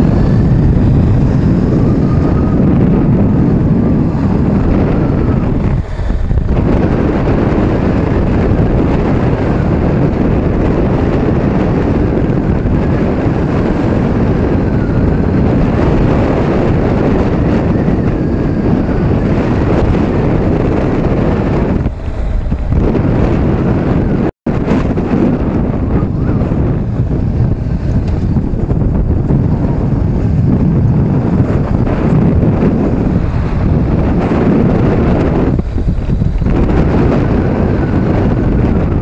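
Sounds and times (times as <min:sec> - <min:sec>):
motorcycle engine: 0:00.0 - 0:39.0
road noise: 0:00.0 - 0:39.0
wind rushing over microphone: 0:00.0 - 0:39.0.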